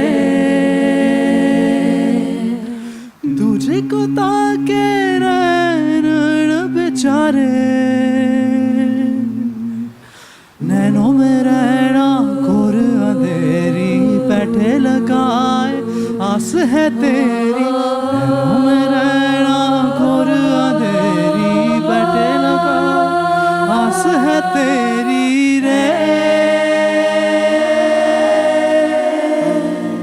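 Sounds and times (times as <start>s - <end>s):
a cappella ensemble singing: 0.0s - 30.0s.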